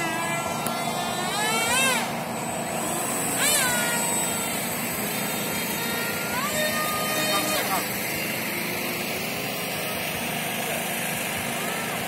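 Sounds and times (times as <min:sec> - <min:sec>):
model jet motor whine: 0:00.0 - 0:12.0.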